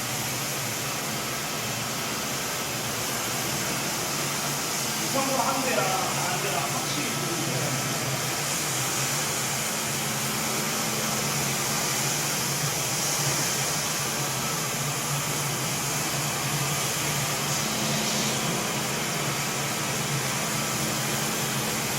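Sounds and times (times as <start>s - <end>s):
floor scrubber suction hiss: 0.0s - 21.9s.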